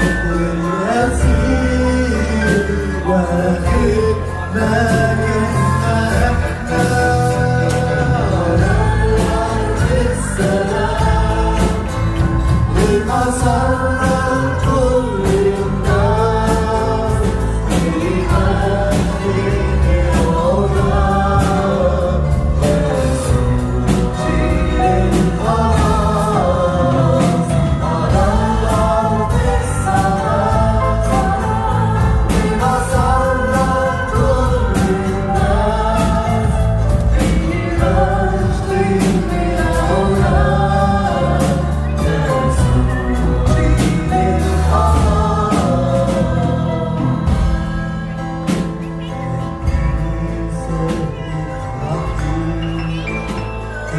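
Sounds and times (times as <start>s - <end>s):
choir singing: 0.0s - 48.6s.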